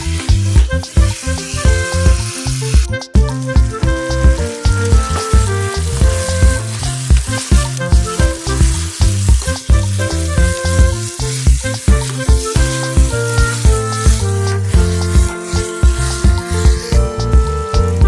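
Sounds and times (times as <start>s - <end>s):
chicken sizzling in a pan: 0.0s - 2.9s, 4.6s - 16.9s
music with steady beat: 0.0s - 18.0s.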